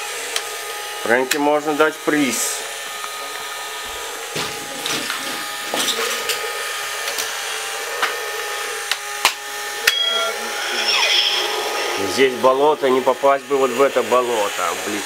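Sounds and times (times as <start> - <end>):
small electric motor whirring: 0.0 - 15.0.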